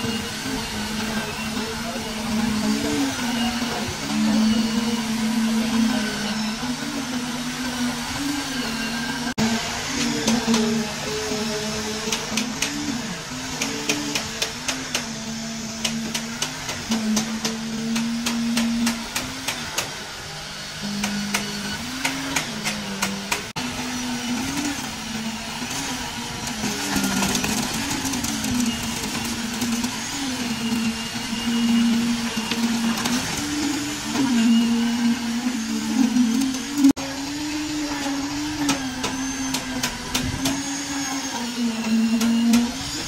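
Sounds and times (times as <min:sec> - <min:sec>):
small engine running: 0:00.0 - 0:43.0.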